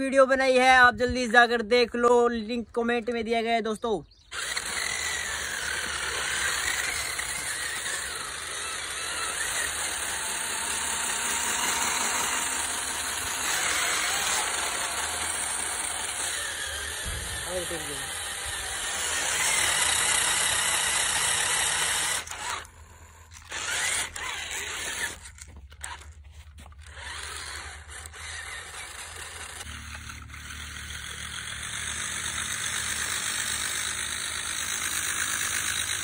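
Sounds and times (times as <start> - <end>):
toy car electric motor whining: 4.2 - 36.0.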